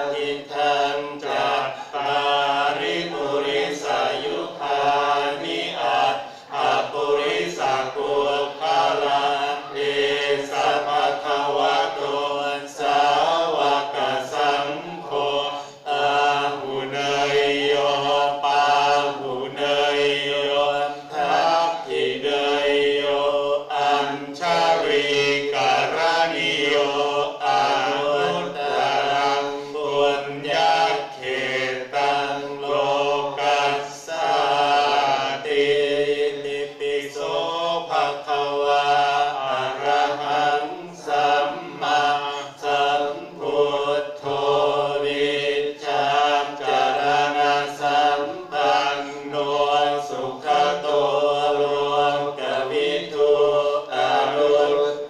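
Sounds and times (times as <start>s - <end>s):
group chanting in unison: 0.0s - 55.0s.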